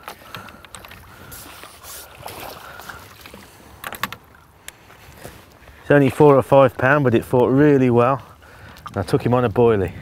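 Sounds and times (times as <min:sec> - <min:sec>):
river water splashing: 0:00.0 - 0:10.0.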